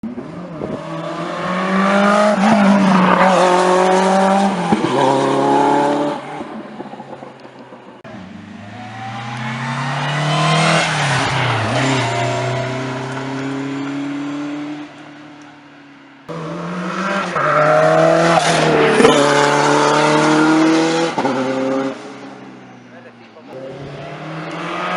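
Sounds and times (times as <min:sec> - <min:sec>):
rally car engines revving: 0:00.0 - 0:15.6, 0:16.2 - 0:24.9.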